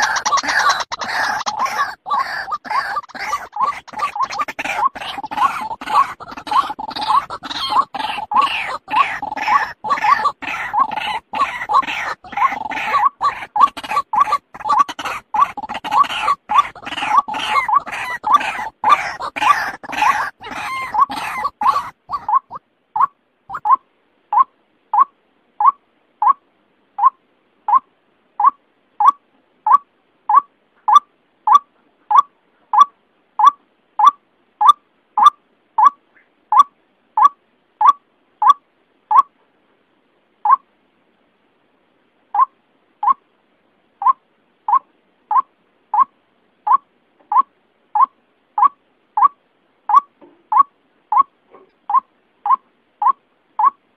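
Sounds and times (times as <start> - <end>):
waterhen calling: 0.0 - 26.4, 27.0 - 39.3, 42.4 - 43.2, 44.0 - 53.8.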